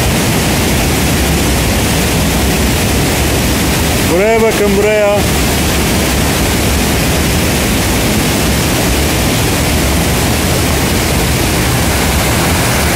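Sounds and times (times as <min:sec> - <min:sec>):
waterfall rushing over rocks: 0:00.0 - 0:12.9.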